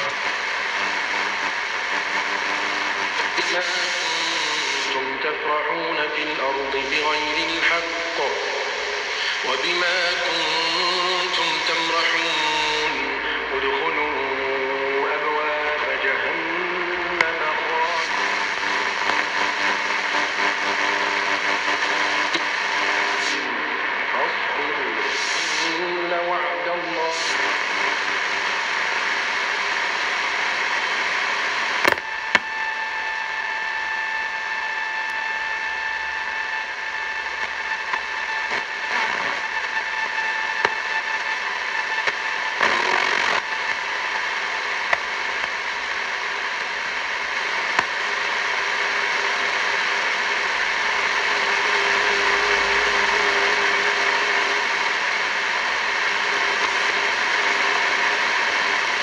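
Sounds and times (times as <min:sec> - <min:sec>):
radio static hiss: 0:00.0 - 0:59.0
sharp static crackles: 0:00.0 - 0:59.0
steady radio whistle: 0:00.0 - 0:59.0.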